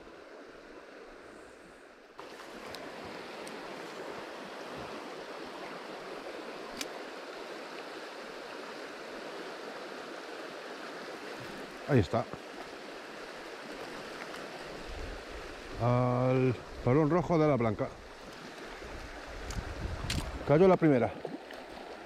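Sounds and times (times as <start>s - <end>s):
river flowing over gravel: 2.2s - 22.0s.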